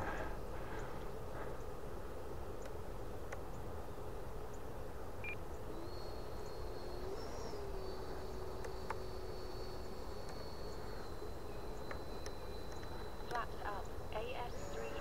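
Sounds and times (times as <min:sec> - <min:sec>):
distant electric jet whine: 0:00.0 - 0:15.0
low background noise: 0:00.0 - 0:15.0.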